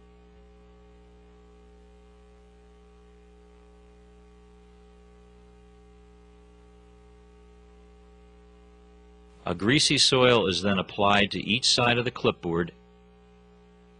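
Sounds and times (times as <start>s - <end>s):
faint electrical mains hum: 0.0s - 13.9s.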